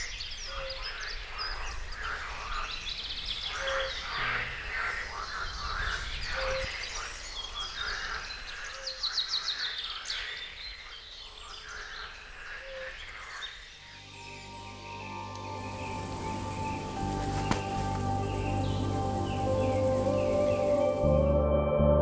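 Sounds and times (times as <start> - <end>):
frogs croaking: 0.0 - 21.1
birds chirping and trilling: 0.0 - 21.4.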